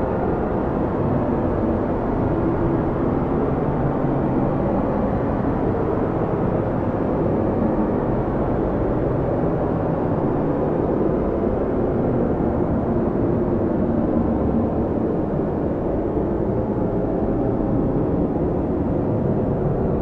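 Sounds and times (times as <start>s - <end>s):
strong snowstorm wind: 0.0s - 20.0s.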